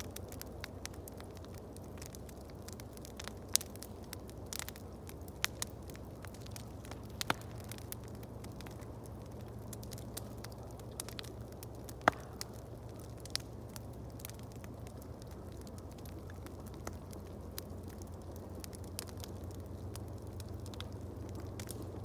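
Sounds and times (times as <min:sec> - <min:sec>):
steady low rumble: 0:00.0 - 0:22.0
wood fire crackling and popping: 0:00.0 - 0:22.0.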